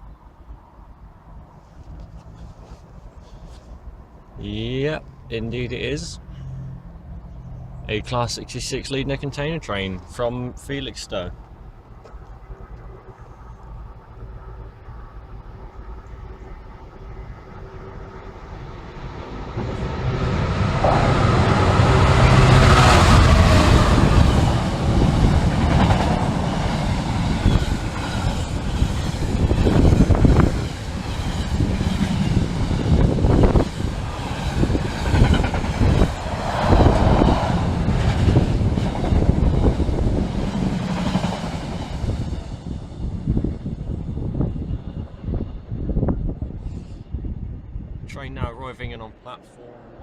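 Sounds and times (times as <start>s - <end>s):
diesel locomotive engine growling: 1.9s - 48.0s.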